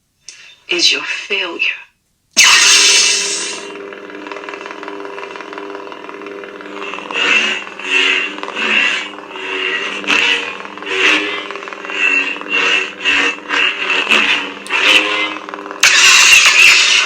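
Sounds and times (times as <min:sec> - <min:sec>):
lightsaber hum: 0:02.4 - 0:17.0.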